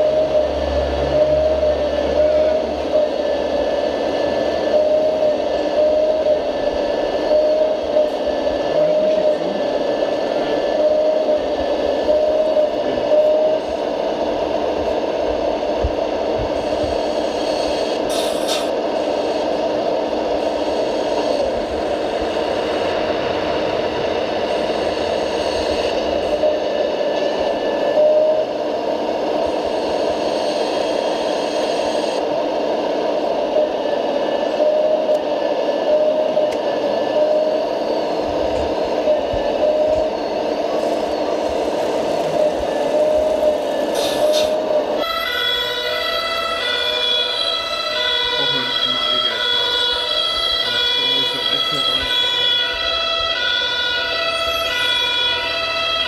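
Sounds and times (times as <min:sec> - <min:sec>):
hydraulic pump whine: 0:00.0 - 0:56.0.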